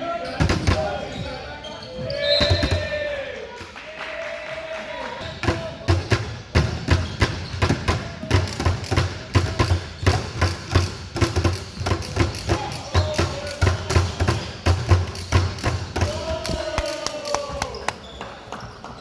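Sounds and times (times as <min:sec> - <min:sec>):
basketballs bouncing on gym floor: 0:00.3 - 0:03.1, 0:05.2 - 0:19.0.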